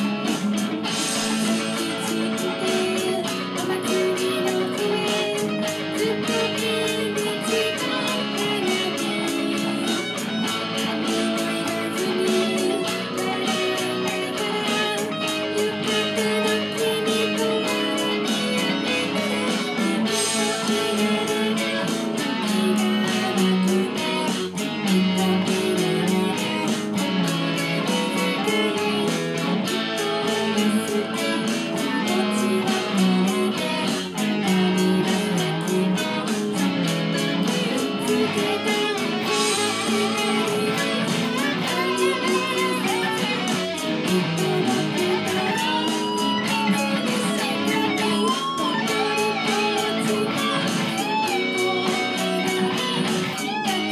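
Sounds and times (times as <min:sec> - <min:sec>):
electric guitar ballad melody: 0:00.0 - 0:53.9
full-band backing track: 0:00.0 - 0:53.9.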